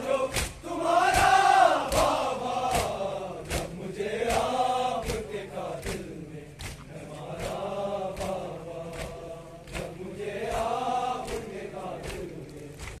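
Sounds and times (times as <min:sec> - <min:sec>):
men chanting in unison: 0:00.0 - 0:13.0
chest-beating slaps: 0:00.3 - 0:13.0.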